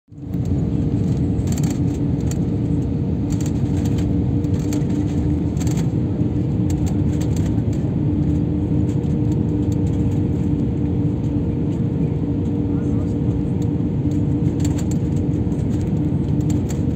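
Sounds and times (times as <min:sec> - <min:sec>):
constant droning hum: 0:00.1 - 0:16.9
jet engine roar and rushing air: 0:00.1 - 0:16.9.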